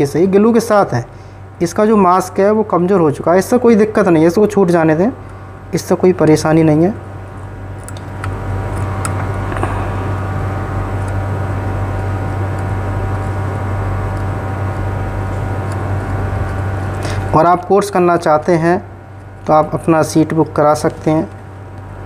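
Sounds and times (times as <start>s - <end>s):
hot air blower whirring: 0.0s - 22.0s.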